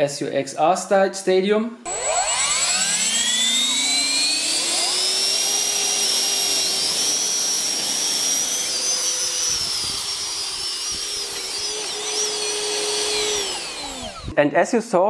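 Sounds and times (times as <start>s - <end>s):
electric fans whining: 1.9s - 14.4s.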